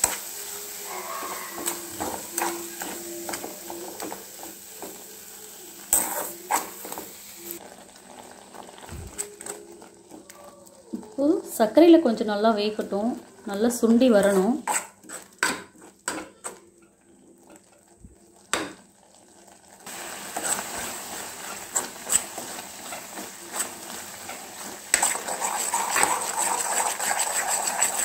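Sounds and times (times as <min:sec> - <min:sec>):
spoon stirring and scraping pot: 0:00.0 - 0:05.1, 0:05.9 - 0:10.3, 0:13.8 - 0:19.2, 0:20.1 - 0:28.0
bubbling sizzle: 0:00.0 - 0:28.0.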